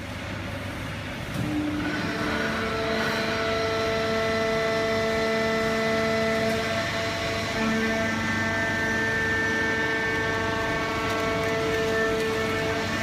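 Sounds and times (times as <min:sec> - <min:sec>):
baler machine whine: 0:01.4 - 0:13.0.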